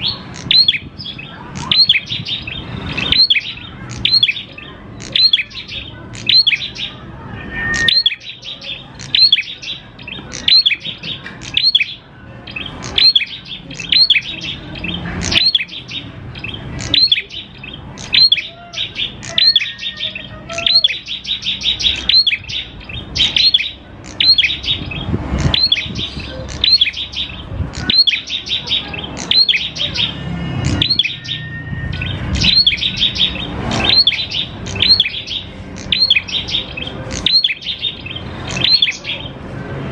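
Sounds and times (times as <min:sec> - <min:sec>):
bird singing high chirps: 0:00.0 - 0:39.4.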